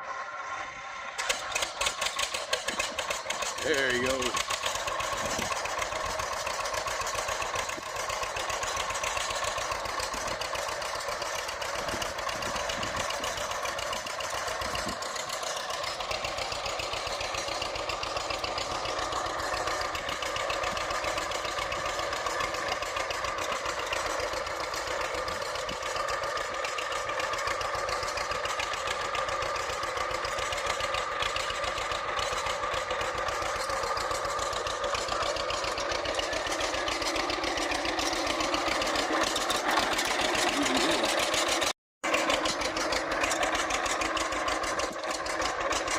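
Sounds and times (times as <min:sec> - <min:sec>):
engine running: 0:00.0 - 0:45.9.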